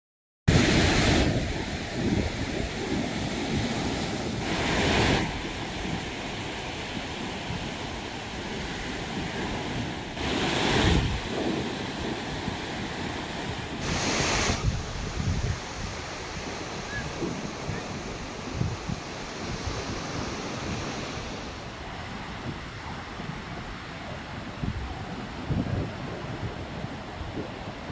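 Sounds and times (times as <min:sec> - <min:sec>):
surf breaking on a beach: 0:00.5 - 0:27.9
wind rumbling on microphone: 0:00.5 - 0:27.9.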